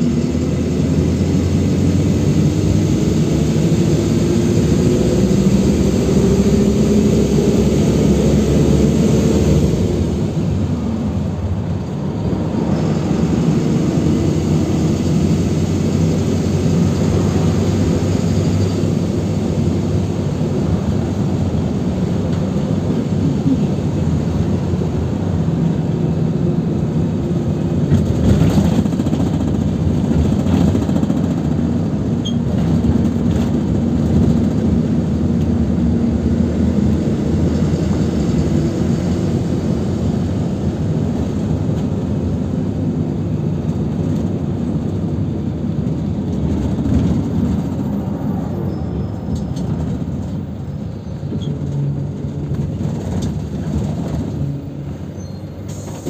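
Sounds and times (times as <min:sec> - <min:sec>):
bus engine humming: 0:00.0 - 0:56.0
tyre and road noise: 0:00.0 - 0:56.0.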